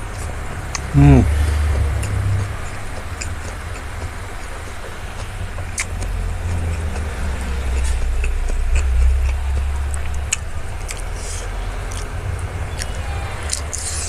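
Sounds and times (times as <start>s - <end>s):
low steady rumble: 0.0s - 14.0s
wet chewing smacks: 0.0s - 14.0s.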